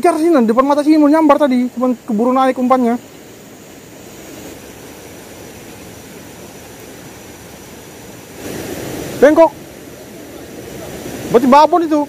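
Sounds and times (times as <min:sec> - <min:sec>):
rapids rushing: 0:00.0 - 0:12.0
river rushing over stones: 0:00.0 - 0:12.0.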